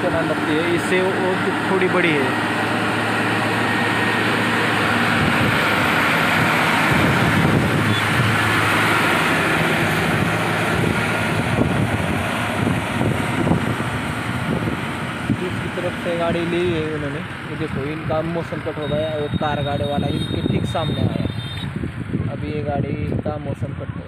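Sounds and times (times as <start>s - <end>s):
truck diesel engine droning: 0.0s - 22.3s.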